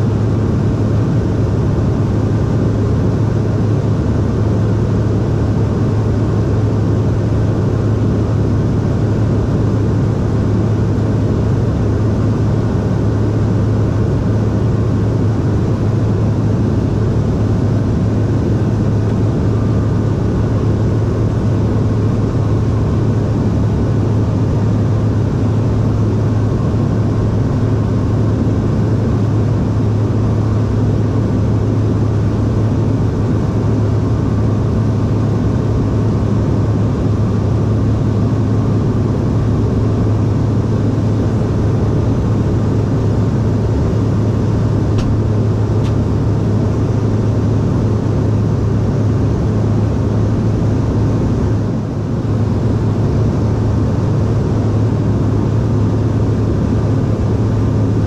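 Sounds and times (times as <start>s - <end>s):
jet engine drone: 0.0s - 58.0s.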